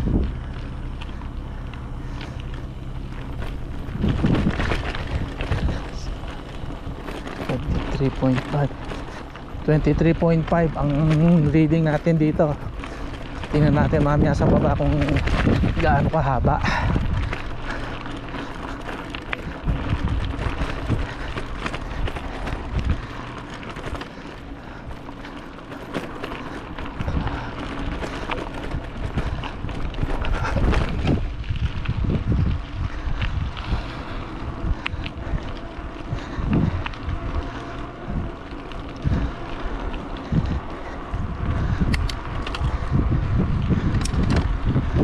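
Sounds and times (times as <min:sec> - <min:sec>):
bicycle rattling: 0:00.0 - 0:45.0
low rumble: 0:00.0 - 0:45.0
tyres crunching over gravel: 0:00.0 - 0:45.0
wind buffeting microphone: 0:00.0 - 0:45.0.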